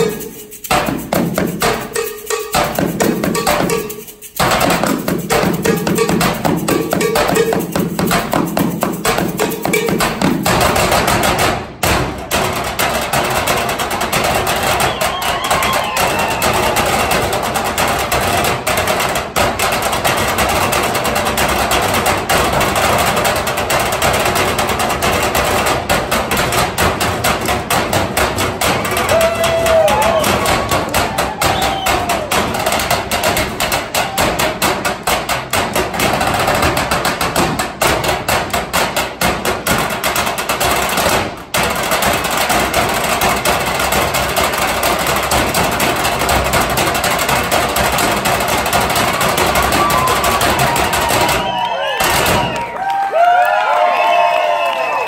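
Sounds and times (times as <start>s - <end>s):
sticks drumming on metal cans: 0.0s - 53.0s.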